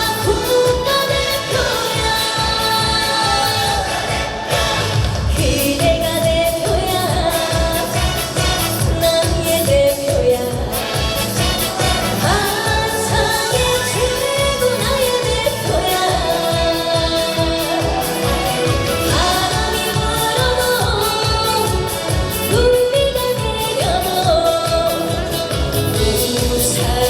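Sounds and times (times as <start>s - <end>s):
accompaniment with steady beat: 0.0s - 27.0s
woman singing: 0.0s - 27.0s.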